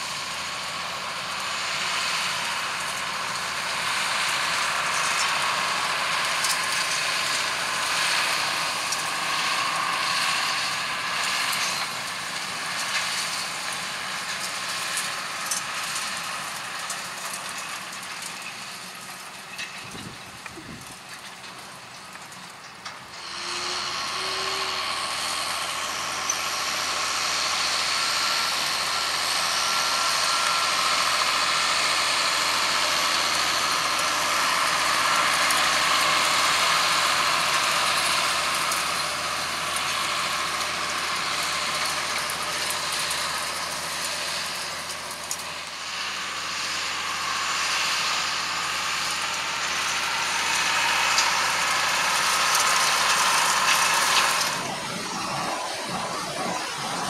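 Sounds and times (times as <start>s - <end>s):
hay rake rotors turning: 0.0s - 57.0s
tractor diesel engine under load: 0.0s - 57.0s.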